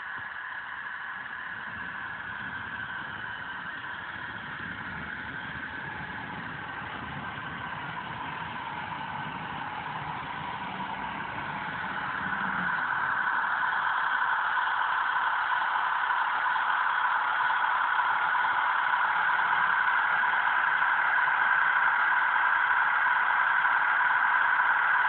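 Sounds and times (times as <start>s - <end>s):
model locomotive engine sound: 0.0s - 25.0s.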